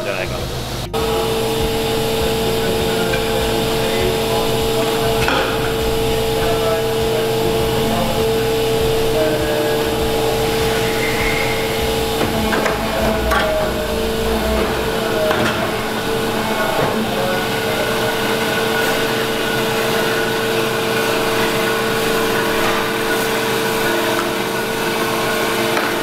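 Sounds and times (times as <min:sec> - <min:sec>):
tube bender whining: 0:00.0 - 0:26.0.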